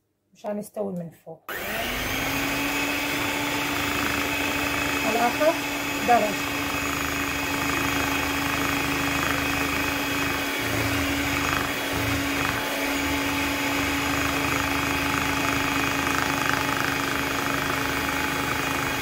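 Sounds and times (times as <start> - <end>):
electric hand mixer whirring: 1.5 - 19.0
motor hum: 1.5 - 19.0.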